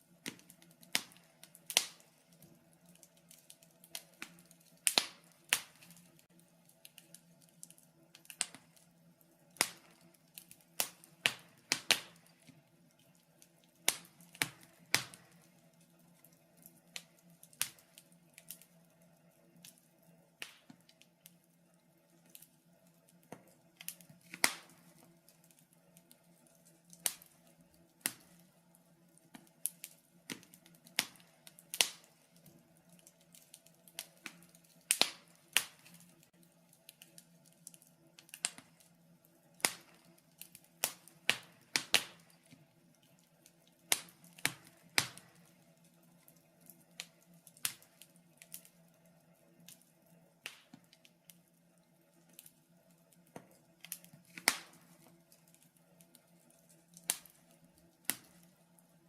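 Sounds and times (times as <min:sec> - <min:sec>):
faint steady hum: 0:00.0 - 0:59.0
wood fire crackling: 0:00.0 - 0:59.0.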